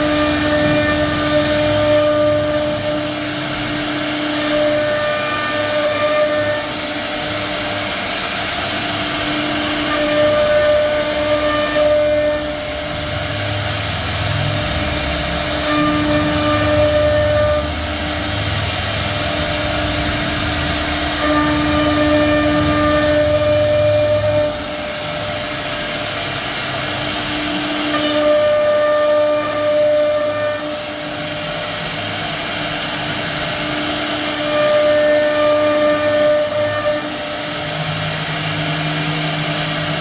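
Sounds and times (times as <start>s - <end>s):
router spindle carving wood: 0.0s - 40.0s.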